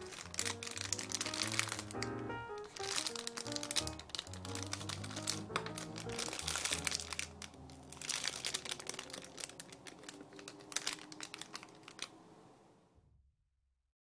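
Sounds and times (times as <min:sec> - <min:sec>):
plastic crinkling: 0:00.0 - 0:12.3
soft background music: 0:00.0 - 0:12.4.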